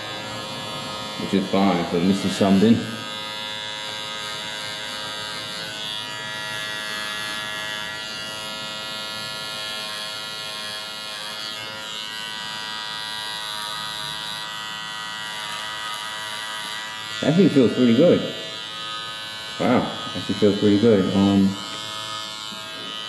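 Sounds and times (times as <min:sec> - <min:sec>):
hair trimmer buzzing: 0:00.0 - 0:23.0.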